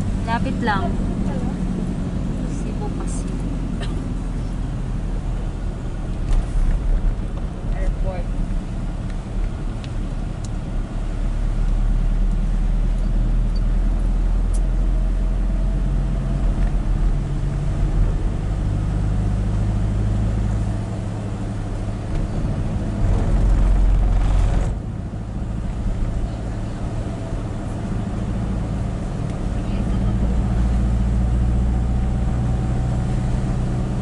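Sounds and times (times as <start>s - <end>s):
road noise on wet road: 0.0s - 34.0s
vehicle engine hum: 0.0s - 34.0s.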